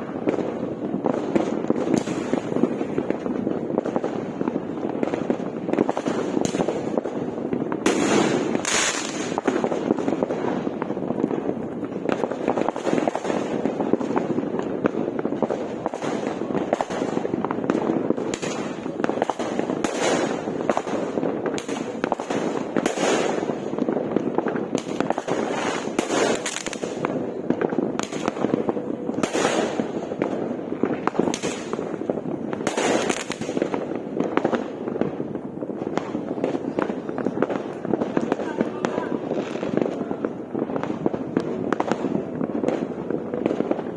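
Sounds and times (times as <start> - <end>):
fireworks barrage crackling: 0.0 - 43.9
loud firework bursts: 0.0 - 43.9.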